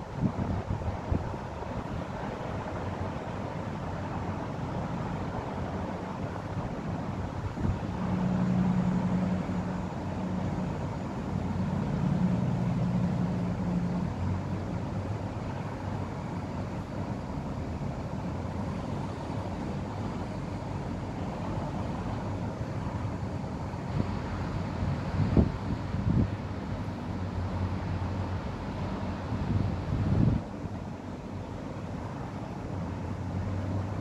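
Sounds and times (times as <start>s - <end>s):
distant road traffic: 0.0s - 34.0s.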